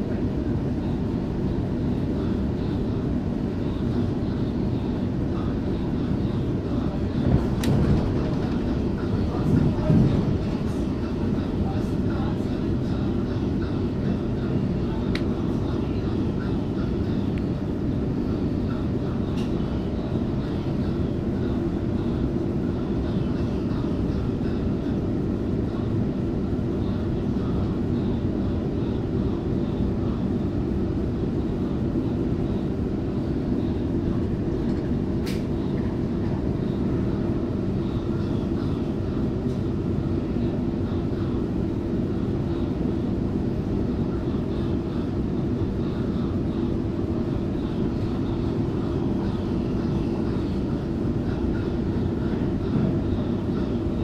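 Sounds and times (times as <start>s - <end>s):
train wheels rumbling on track: 0.0s - 54.0s
faint steady hum: 10.6s - 54.0s.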